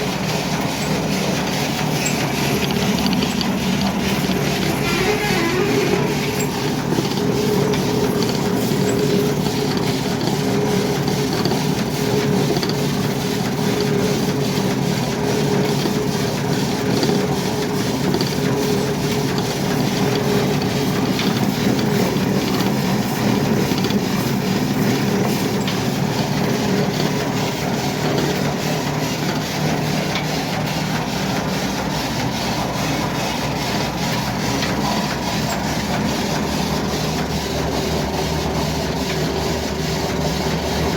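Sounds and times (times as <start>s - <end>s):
heavy machinery running: 0.0s - 40.9s.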